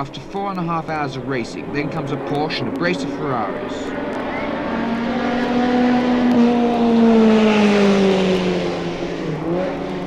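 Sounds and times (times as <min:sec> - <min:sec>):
racing car engine passing: 0:00.0 - 0:10.0.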